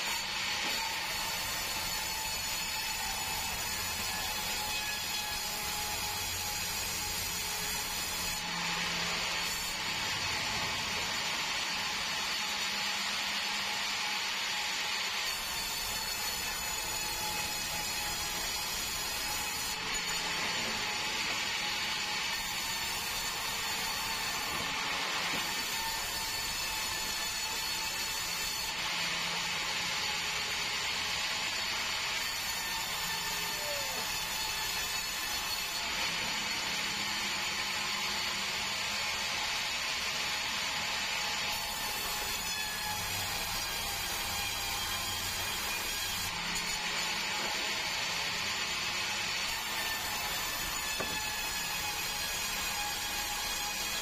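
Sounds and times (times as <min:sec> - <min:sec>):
band saw cutting through log: 0:00.0 - 0:54.0.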